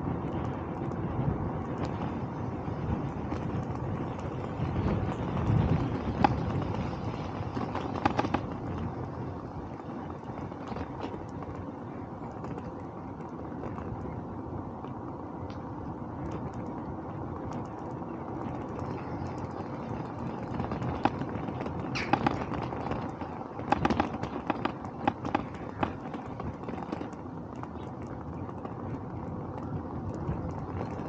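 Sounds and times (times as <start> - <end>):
bicycle tyre noise: 0.0 - 31.0
wind on microphone: 0.0 - 31.0
sharp clicks and rattles: 3.1 - 14.1, 16.2 - 31.0.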